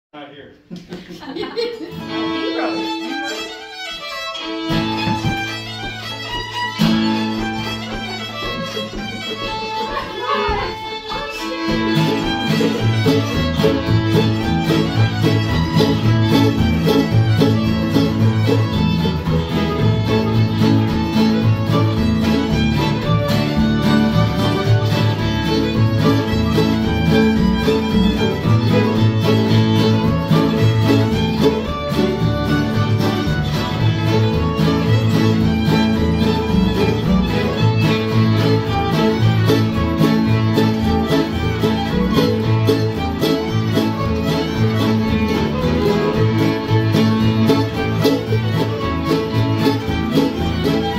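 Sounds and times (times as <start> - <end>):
mandolin: 0.8 - 50.9
fiddles bowing melody: 1.9 - 50.9
strummed acoustic guitar: 1.9 - 50.9.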